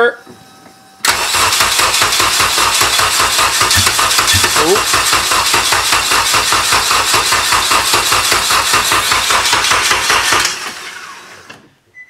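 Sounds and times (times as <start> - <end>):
starter cranking engine: 1.0 - 11.6.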